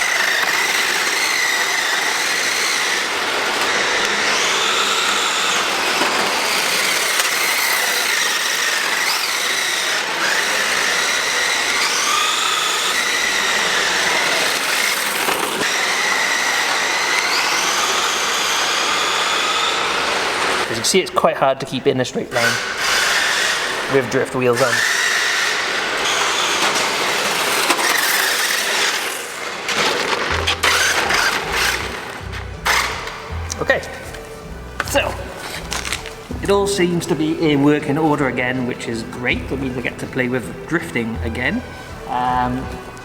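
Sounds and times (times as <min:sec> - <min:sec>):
electric motor whine: 0:00.0 - 0:20.8, 0:22.3 - 0:43.0.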